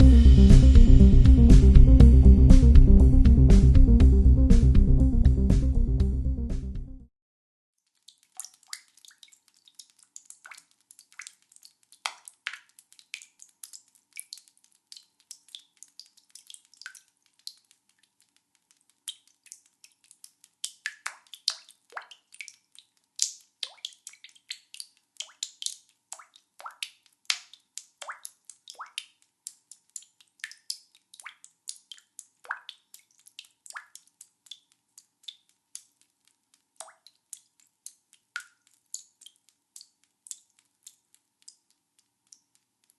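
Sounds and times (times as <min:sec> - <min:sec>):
water dripping fast: 0:07.8 - 0:42.9.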